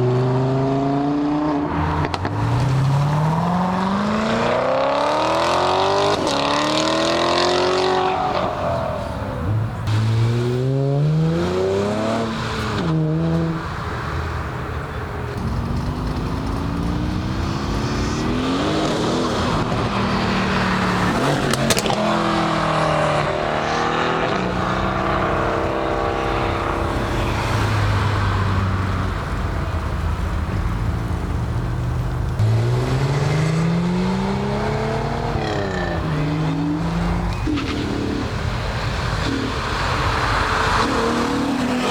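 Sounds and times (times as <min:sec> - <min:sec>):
cars accelerating past: 0:00.0 - 0:41.9.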